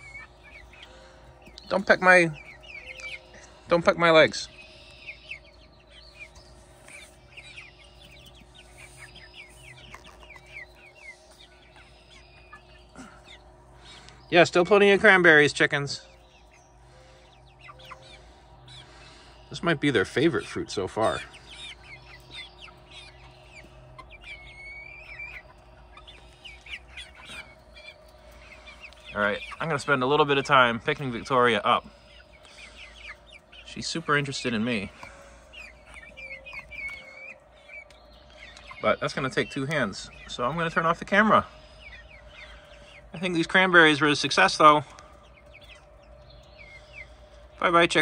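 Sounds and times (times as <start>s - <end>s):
chickens clucking: 0.0s - 48.0s
hens chirping: 0.0s - 48.0s.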